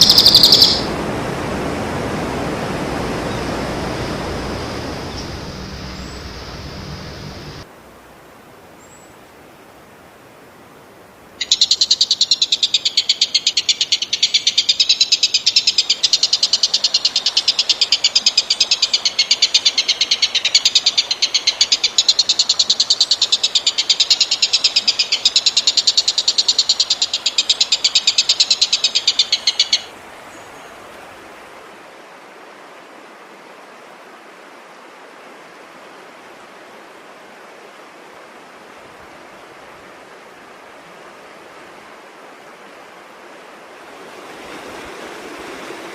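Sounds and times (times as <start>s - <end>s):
faint steady hiss: 0.0s - 45.9s.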